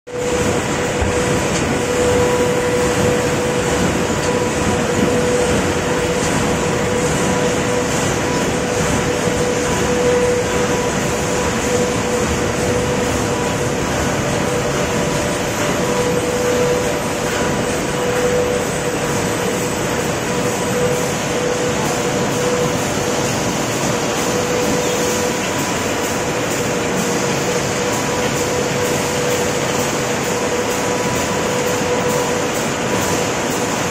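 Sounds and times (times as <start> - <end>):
conveyor machinery rumbling: 0.1 - 33.9.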